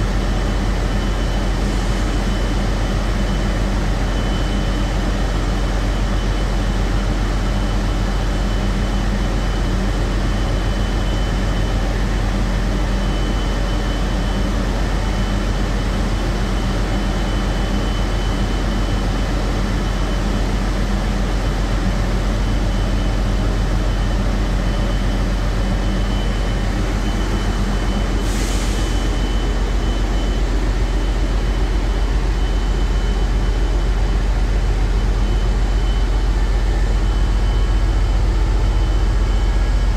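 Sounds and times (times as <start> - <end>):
diesel machinery drone: 0.0 - 39.9.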